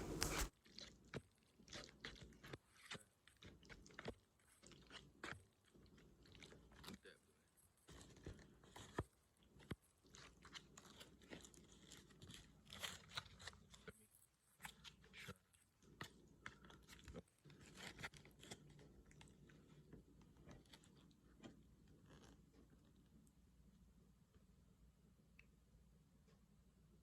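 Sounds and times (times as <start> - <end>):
person chewing with wet mouth sounds: 0.1 - 23.6.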